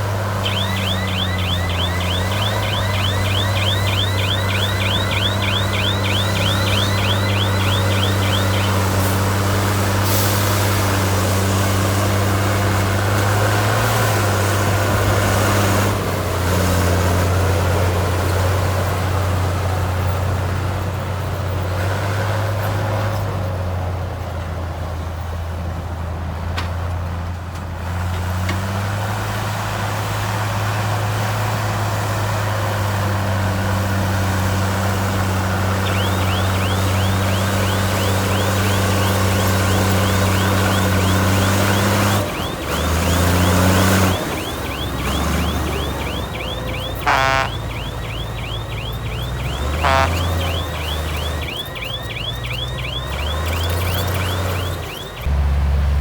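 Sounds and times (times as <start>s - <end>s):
heavy diesel engine under load: 0.0s - 56.0s.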